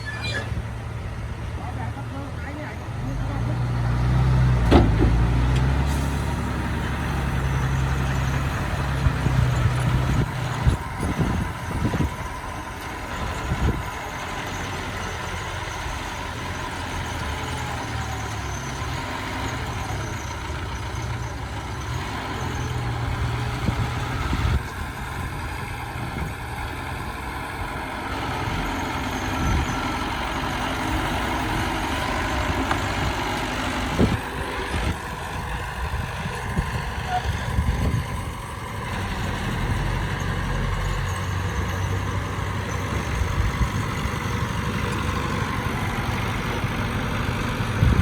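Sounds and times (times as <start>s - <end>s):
bulldozer diesel engine: 0.0s - 48.0s.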